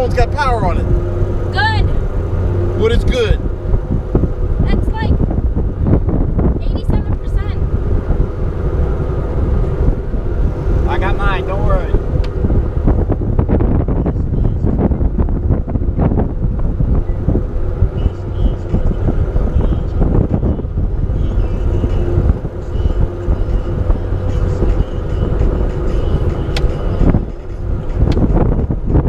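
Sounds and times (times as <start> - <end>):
boat motor running: 0.0 - 29.0
wind buffeting microphone: 0.0 - 29.0.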